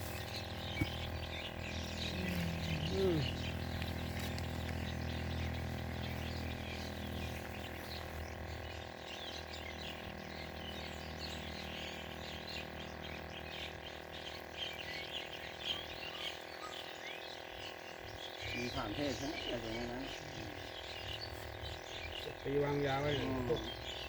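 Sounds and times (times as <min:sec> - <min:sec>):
low hum: 0:00.0 - 0:24.0
small birds chirping: 0:00.0 - 0:24.0.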